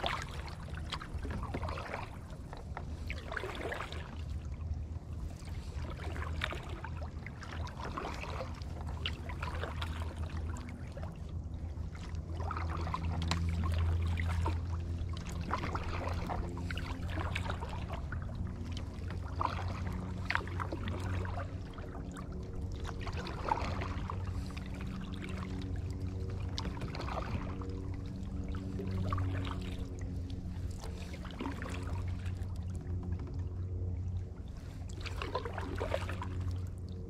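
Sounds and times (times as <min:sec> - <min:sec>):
low steady rumble: 0:00.0 - 0:37.0
paddle splashes and drips: 0:00.0 - 0:37.0
water lapping against hull: 0:00.0 - 0:37.0.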